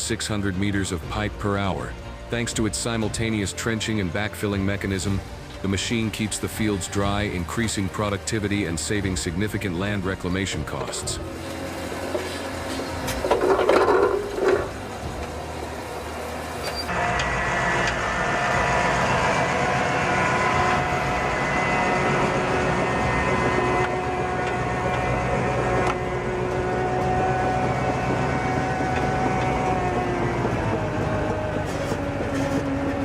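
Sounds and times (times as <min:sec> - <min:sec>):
heavy vehicle engine humming: 0:00.0 - 0:33.0.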